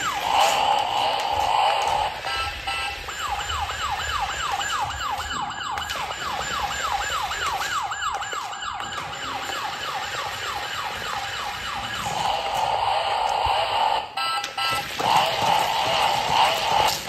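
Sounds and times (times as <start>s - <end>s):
toy electronic siren wailing: 0.0s - 17.0s.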